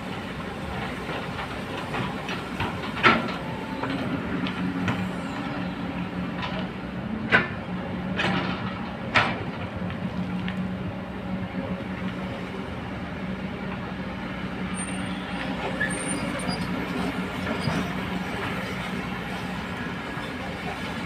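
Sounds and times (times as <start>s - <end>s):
excavator diesel engines and hydraulics: 0.0s - 21.0s.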